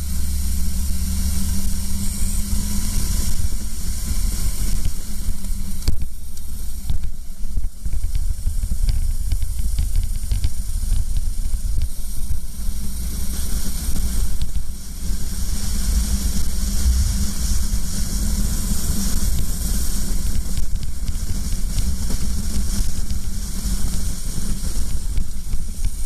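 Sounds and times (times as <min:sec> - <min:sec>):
go-kart engine drone: 0:00.0 - 0:26.0
wind rushing on microphone: 0:00.0 - 0:26.0.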